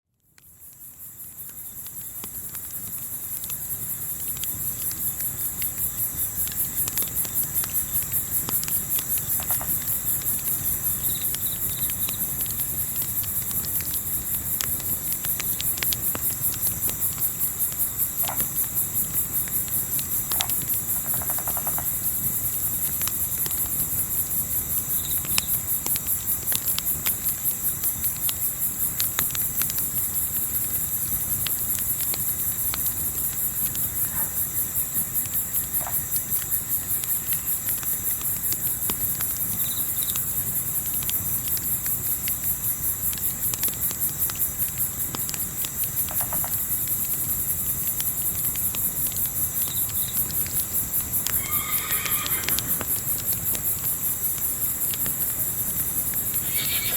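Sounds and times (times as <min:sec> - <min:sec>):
campfire crackling and popping: 0:00.2 - 0:56.9
crickets chirping: 0:00.4 - 0:56.9.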